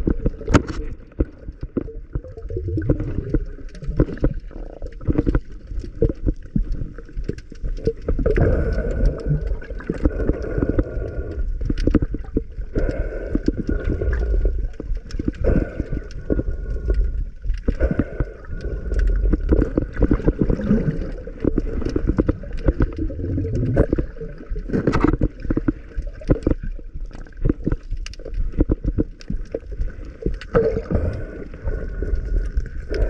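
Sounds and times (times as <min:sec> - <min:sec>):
small crackling clicks: 0:00.0 - 0:33.0
water gurgling and sloshing: 0:00.0 - 0:33.0.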